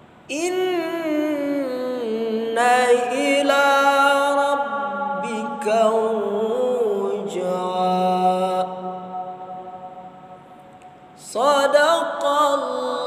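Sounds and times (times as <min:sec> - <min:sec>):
man reciting melodically: 0:00.3 - 0:10.5, 0:11.1 - 0:13.0.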